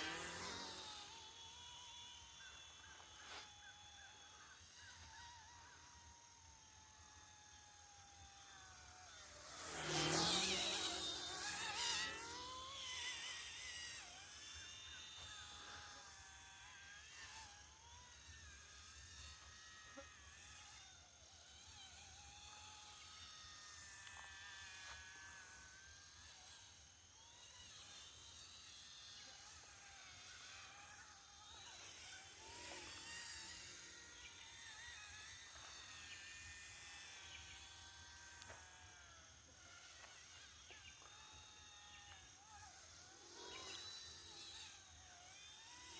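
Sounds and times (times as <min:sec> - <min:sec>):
toy helicopter rotor whine: 0:00.0 - 0:45.9.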